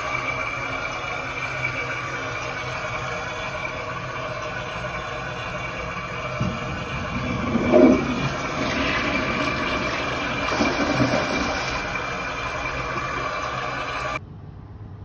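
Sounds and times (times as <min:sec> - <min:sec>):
toilet flushing: 0:00.0 - 0:14.2.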